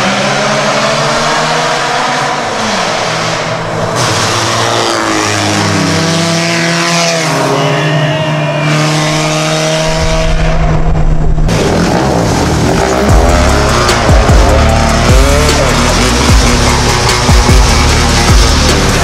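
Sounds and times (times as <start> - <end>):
car engines passing at speed: 0.0 - 19.0.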